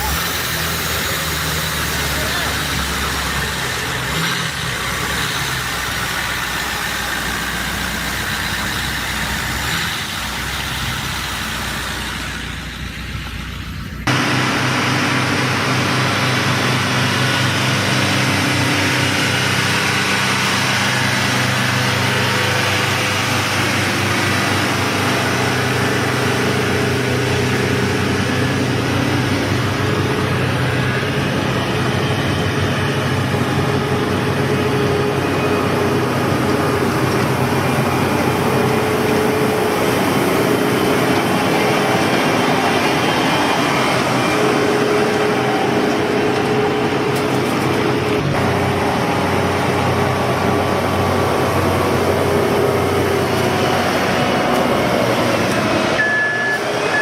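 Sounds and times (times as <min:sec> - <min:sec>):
heavy machinery engine running: 0:00.0 - 0:57.0.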